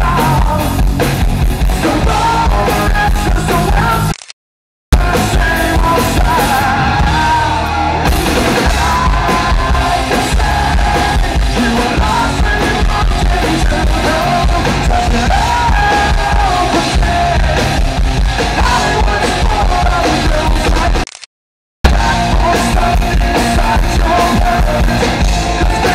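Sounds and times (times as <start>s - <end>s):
man singing: 0.0s - 0.8s, 1.7s - 4.1s, 5.0s - 21.0s, 21.9s - 25.9s
rock band playing live: 0.0s - 4.1s, 5.0s - 21.0s, 21.8s - 25.9s.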